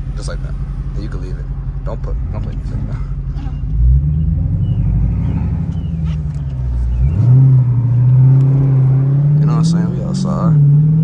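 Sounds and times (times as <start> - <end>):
car engine revving under throttle: 0.0 - 11.0.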